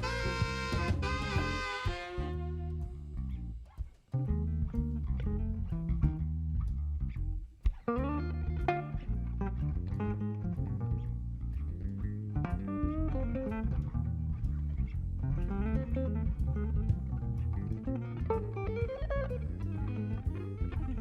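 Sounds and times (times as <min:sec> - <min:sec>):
drums: 0:00.0 - 0:21.0
electric bass: 0:00.0 - 0:21.0
electric guitar lines: 0:00.0 - 0:21.0.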